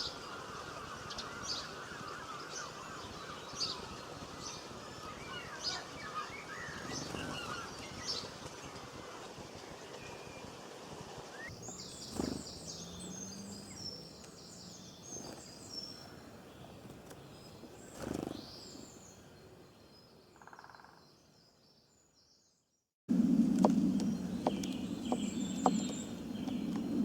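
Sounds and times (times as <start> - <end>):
small birds chirping: 0.0 - 10.6, 11.4 - 27.0.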